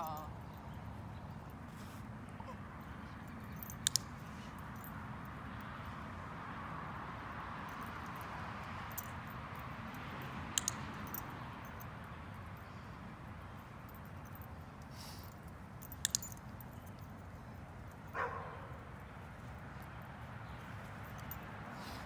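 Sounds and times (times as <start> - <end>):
faint outdoor hiss: 0.0 - 22.0.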